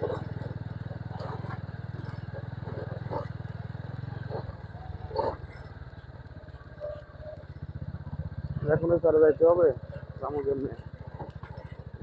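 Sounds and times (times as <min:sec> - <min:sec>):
motorcycle engine running slowly: 0:00.0 - 0:12.0.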